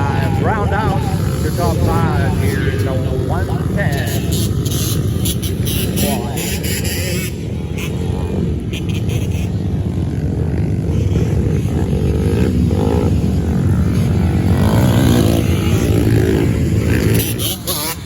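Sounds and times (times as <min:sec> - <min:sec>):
quad engines racing: 0:00.0 - 0:18.0.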